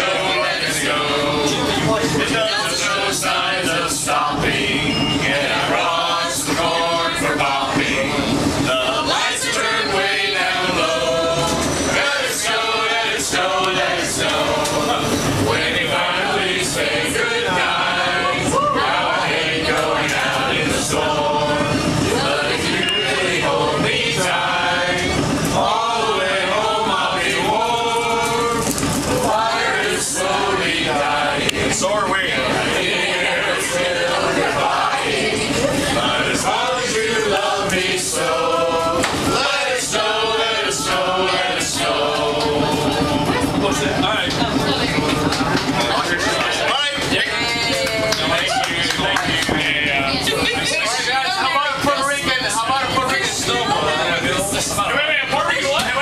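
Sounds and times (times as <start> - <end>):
group singing a carol: 0.0 - 56.0.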